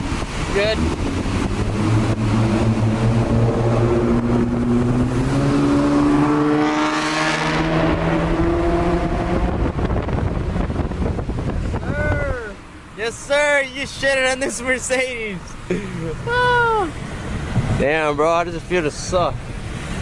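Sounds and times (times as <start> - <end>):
car exhaust under hard acceleration: 0.0 - 13.0, 15.4 - 20.0
wind and road noise: 0.0 - 20.0.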